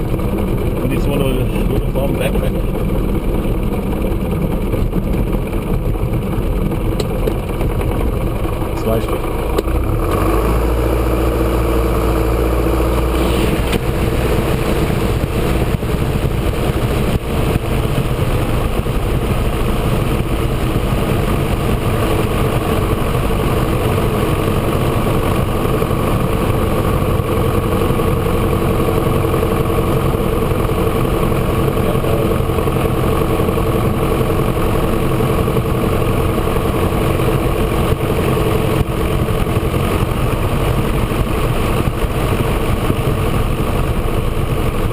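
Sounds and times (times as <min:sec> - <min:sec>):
aircraft piston engine and propeller: 0:00.0 - 0:44.9.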